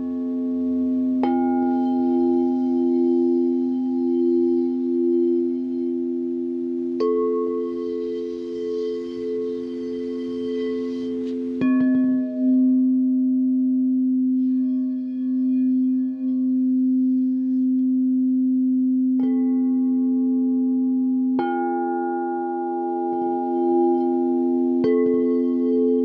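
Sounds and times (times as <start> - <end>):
singing bowls ringing: 0.0 - 26.0.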